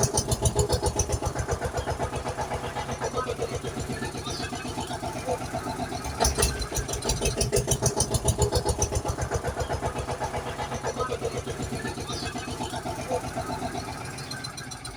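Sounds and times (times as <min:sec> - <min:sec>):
tractor engine chugging: 0:00.0 - 0:14.9.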